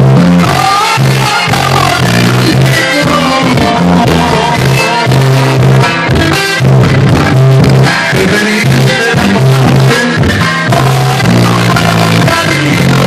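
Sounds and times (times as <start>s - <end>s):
band music: 0.0s - 13.0s
plucked guitar: 0.0s - 13.0s.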